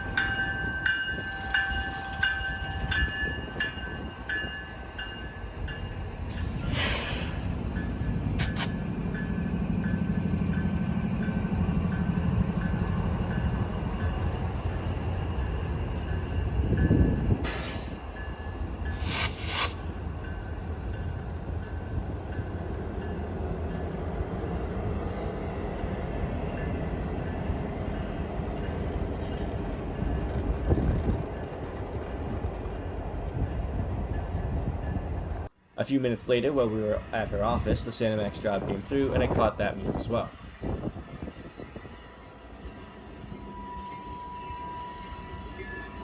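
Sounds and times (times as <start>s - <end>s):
diesel locomotive engine: 0.0s - 46.0s.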